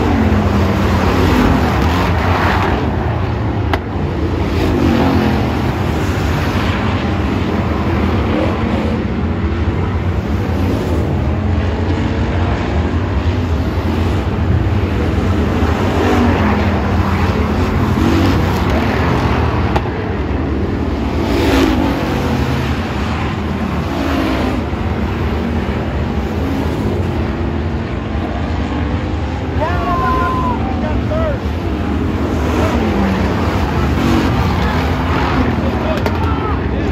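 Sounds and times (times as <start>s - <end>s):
race car engines passing: 0.0s - 36.9s.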